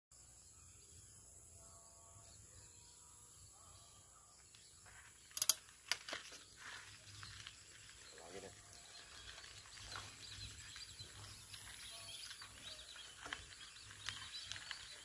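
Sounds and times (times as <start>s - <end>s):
insect chorus chirring: 0.2s - 15.0s.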